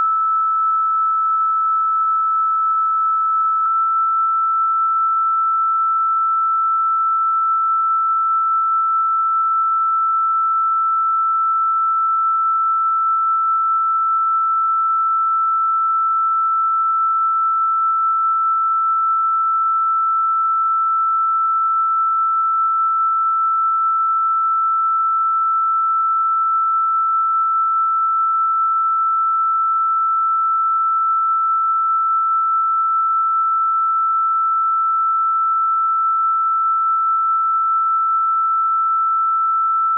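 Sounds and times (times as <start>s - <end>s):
steady electronic sine tone: 0.0s - 39.9s.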